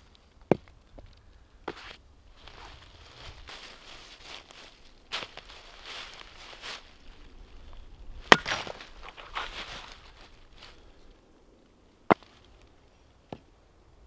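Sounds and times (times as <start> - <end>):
rustling and crunching movement: 0.0 - 13.5.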